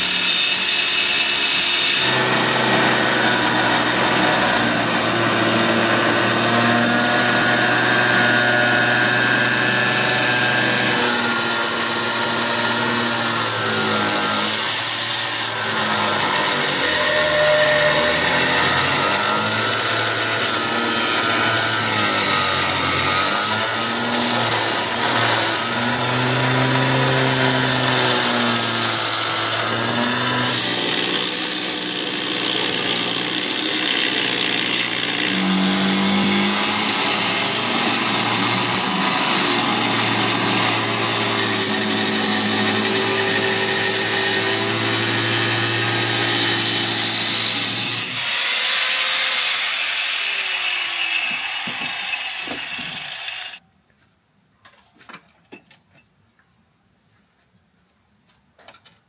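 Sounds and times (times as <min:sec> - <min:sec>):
angle grinder cutting sheet metal: 0:00.0 - 0:53.6.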